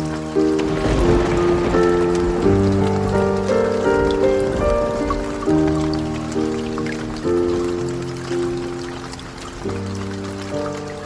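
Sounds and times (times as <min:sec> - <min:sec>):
low rumble of thunder: 0:00.0 - 0:11.0
slow relaxation music: 0:00.0 - 0:11.0
steady rain: 0:00.0 - 0:11.0.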